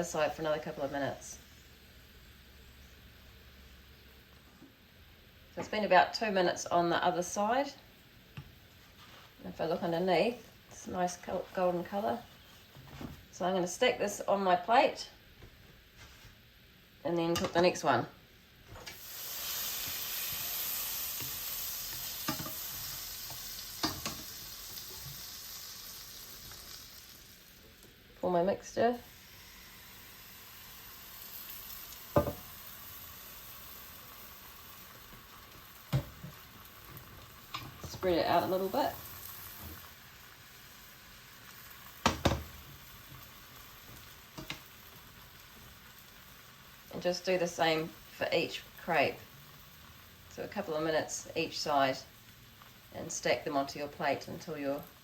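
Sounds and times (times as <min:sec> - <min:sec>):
frying pan sizzling: 0:00.0 - 0:12.2, 0:18.6 - 0:55.0.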